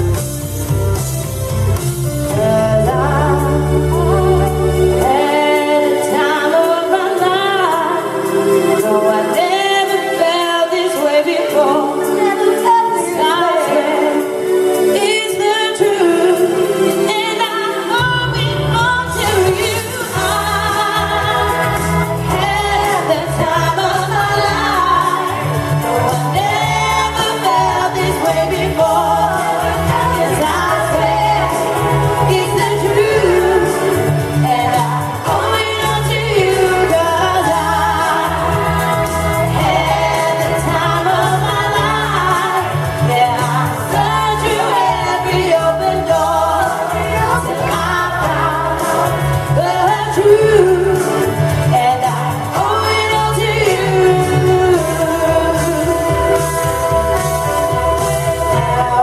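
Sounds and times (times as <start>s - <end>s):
loud pop music with singing: 0.0s - 59.0s.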